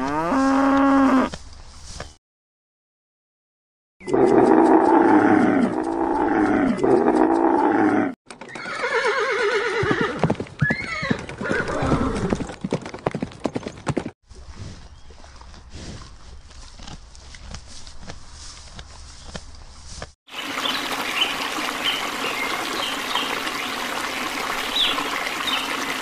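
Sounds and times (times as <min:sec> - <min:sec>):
quiet outdoor background: 0:00.0 - 0:02.2, 0:04.0 - 0:26.0.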